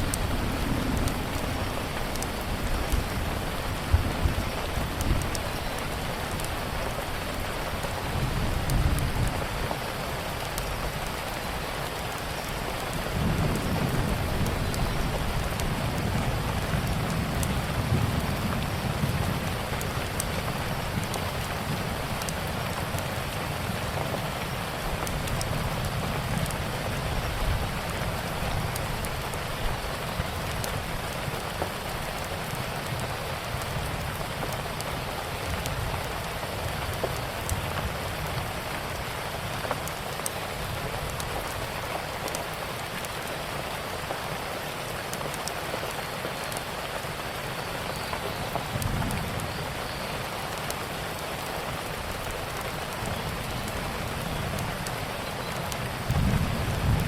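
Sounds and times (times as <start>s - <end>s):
heavy rain falling: 0.0s - 57.0s
sharp ticks and crackles: 0.0s - 57.0s.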